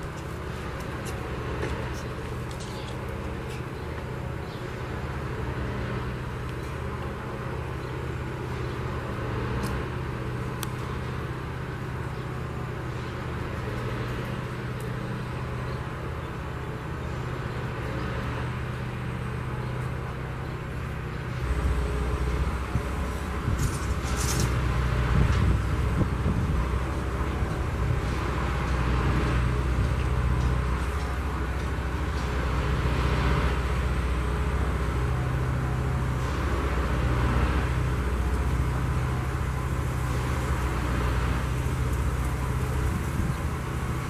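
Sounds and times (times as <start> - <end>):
machine engine humming: 0.0 - 44.0.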